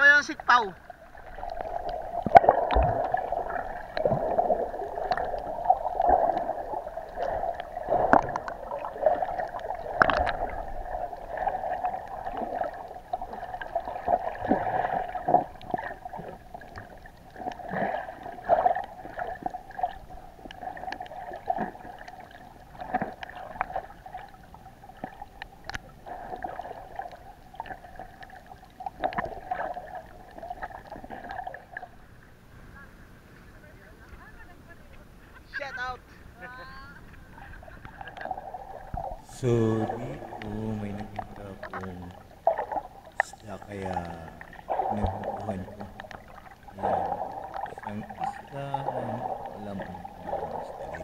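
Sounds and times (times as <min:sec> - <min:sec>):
muffled underwater sloshing: 0:00.0 - 0:51.0.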